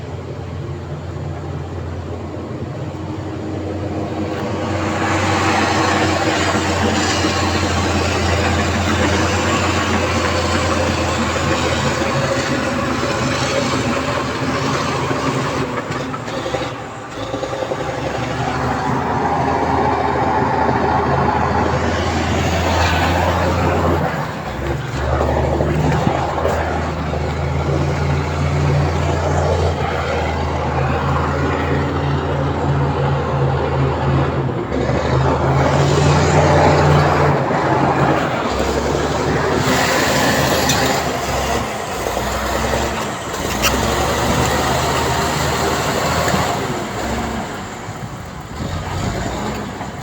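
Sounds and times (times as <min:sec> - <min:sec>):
heavy diesel machine engine drone: 0:00.0 - 0:50.0.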